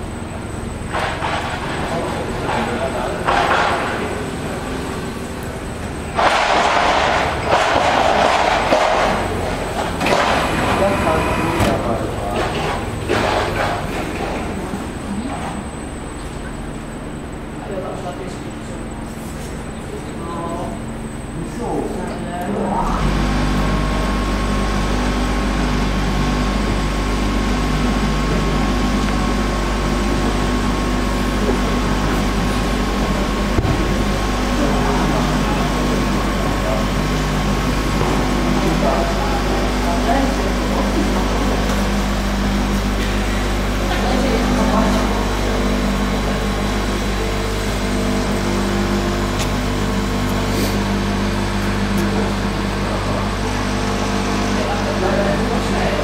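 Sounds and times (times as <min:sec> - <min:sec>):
machinery electric hum and whine: 0:00.0 - 0:56.0.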